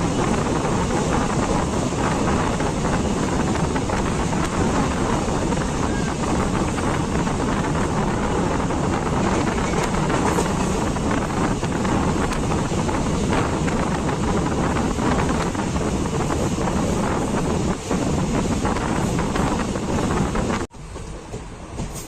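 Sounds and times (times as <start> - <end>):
train rumbling on track: 0.0 - 22.0
wind buffeting microphone: 0.0 - 22.0.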